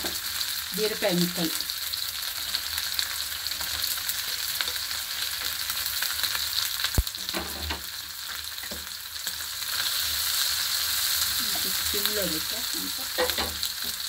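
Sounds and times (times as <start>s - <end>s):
oil sizzling in a frying pan: 0.0s - 14.0s.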